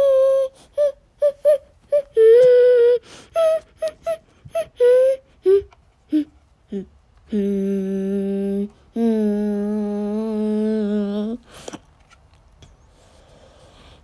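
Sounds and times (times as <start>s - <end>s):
person humming: 0.0s - 11.5s.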